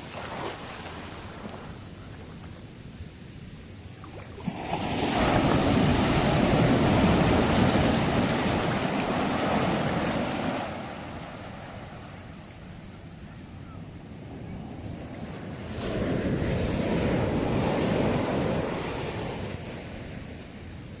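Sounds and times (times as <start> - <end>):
sea waves breaking on shore: 0.0 - 2.4, 4.0 - 12.6, 14.6 - 20.4.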